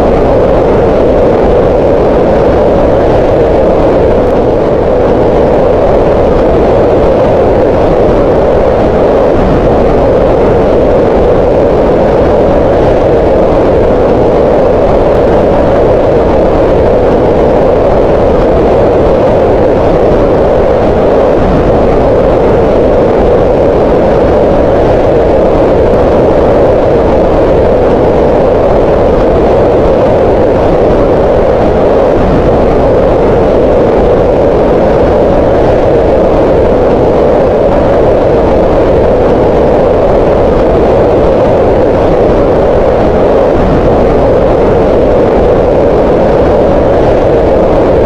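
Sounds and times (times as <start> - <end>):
green noise: 0.0 - 48.0.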